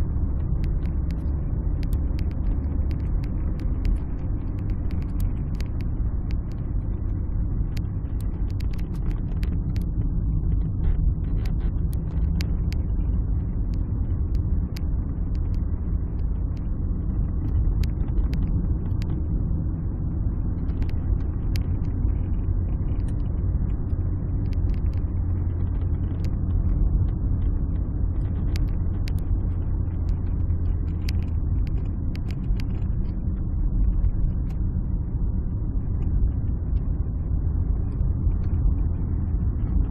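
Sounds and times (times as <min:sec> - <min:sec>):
car engine and road noise: 0:00.0 - 0:39.9
light clicks and ticks: 0:00.2 - 0:19.3, 0:20.5 - 0:34.7.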